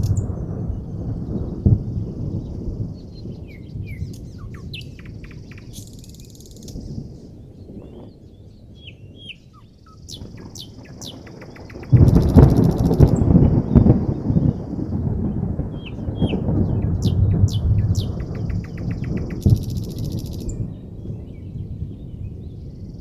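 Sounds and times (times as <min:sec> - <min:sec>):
loud roll of thunder: 0:00.0 - 0:08.4, 0:10.0 - 0:23.0
distant thunder rumbling: 0:00.0 - 0:23.0
songbirds chirping: 0:00.0 - 0:23.0.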